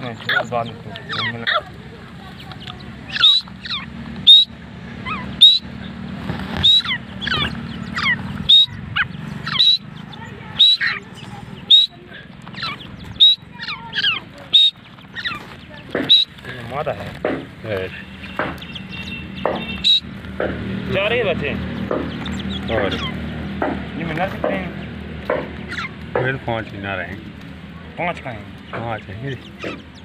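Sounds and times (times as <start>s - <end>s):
francolins calling: 0.0s - 30.0s.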